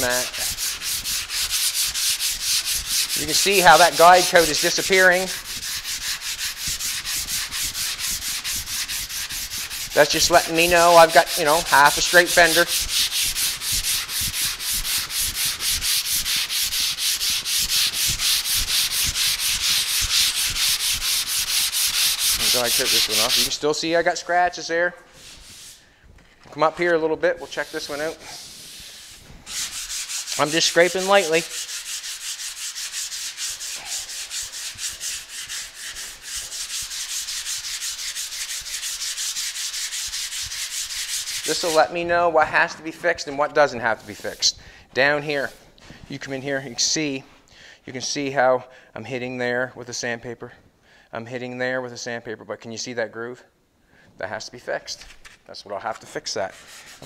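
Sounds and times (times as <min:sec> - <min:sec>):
sandpaper scraping strokes: 0:00.0 - 0:24.4, 0:25.1 - 0:25.9, 0:26.6 - 0:44.6, 0:45.2 - 0:46.3, 0:55.2 - 0:57.0.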